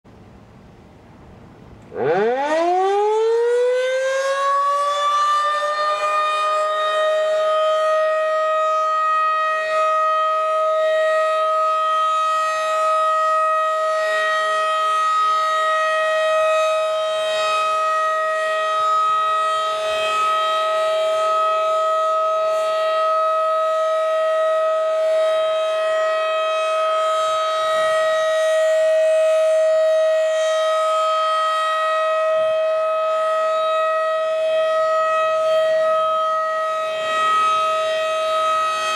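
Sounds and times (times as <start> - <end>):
tornado siren steady tone: 0.1 - 38.9.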